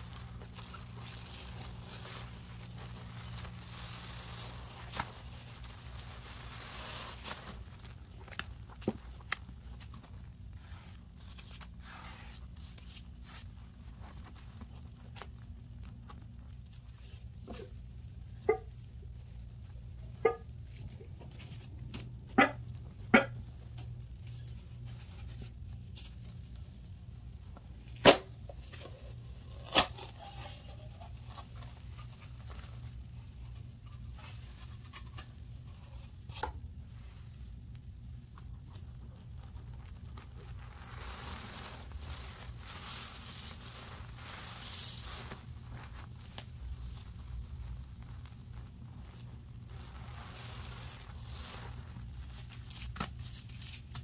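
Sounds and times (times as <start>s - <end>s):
gloved hands pressing powder: 0.0s - 54.0s
soft crackling: 0.0s - 54.0s
sponge squishing in foam: 0.0s - 54.0s.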